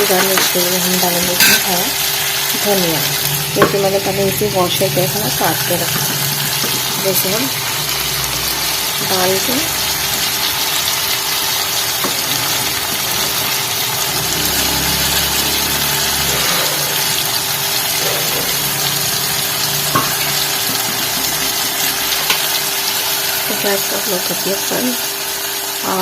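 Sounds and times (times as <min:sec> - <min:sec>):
gas stove burner hissing: 0:00.0 - 0:26.0.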